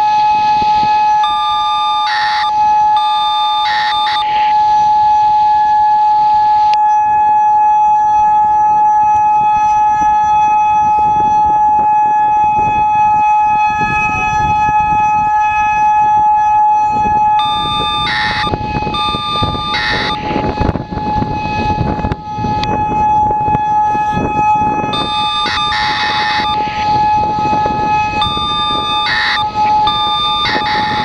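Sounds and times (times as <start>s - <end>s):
warning siren steady tone: 0.0s - 31.0s.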